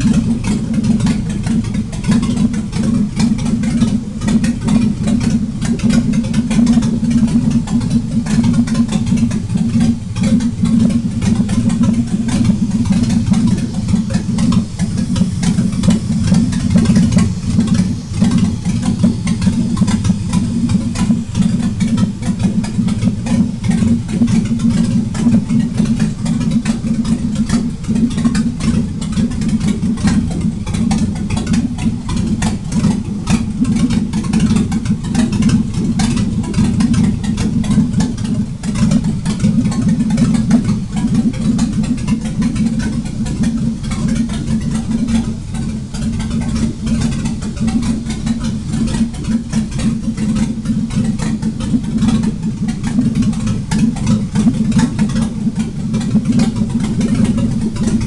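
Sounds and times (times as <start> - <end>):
unmuffled engine idling: 0.0 - 58.0.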